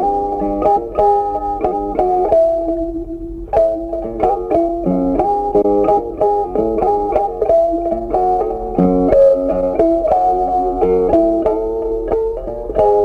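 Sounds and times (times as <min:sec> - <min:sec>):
guitar plucking melody: 0:00.0 - 0:13.0.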